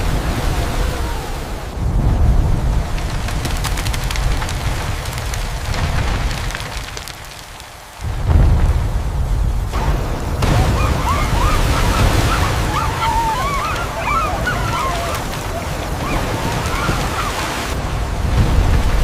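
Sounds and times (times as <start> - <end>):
water rushing roar: 0.0 - 19.0.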